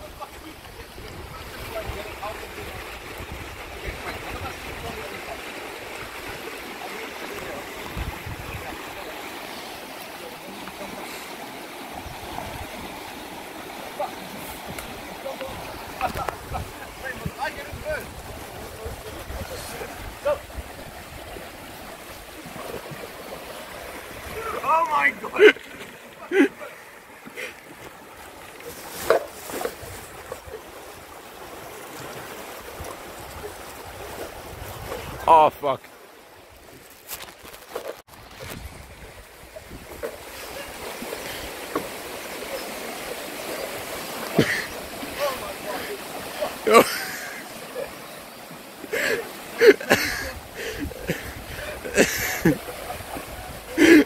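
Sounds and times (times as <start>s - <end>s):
river water rushing over stones: 0.0s - 54.0s.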